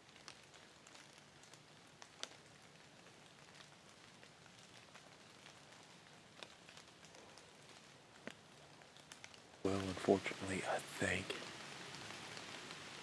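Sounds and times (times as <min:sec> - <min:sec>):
light rain patter: 0:00.0 - 0:13.0
raindrops ticking close by: 0:00.0 - 0:13.0.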